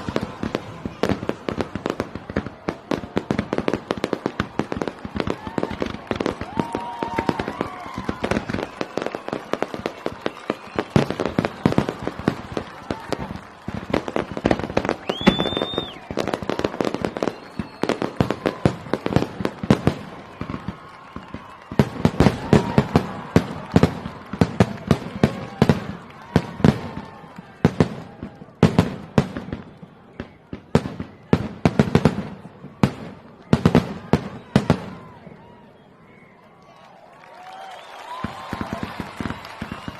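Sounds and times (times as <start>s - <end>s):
fireworks bangs and crackling: 0.0s - 35.7s, 37.6s - 39.9s
firework whistle: 0.0s - 36.7s, 37.4s - 39.9s
onlookers' voices: 0.0s - 39.9s.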